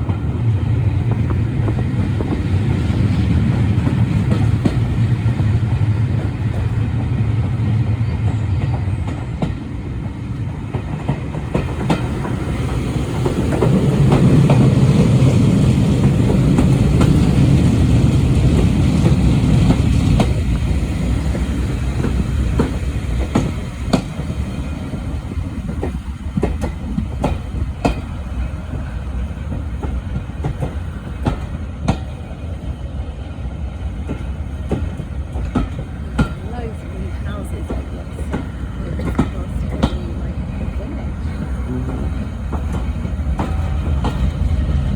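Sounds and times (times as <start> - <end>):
train wheels rumbling: 0.0 - 44.9
wheels clicking over rail joints: 1.0 - 32.4, 33.8 - 44.9.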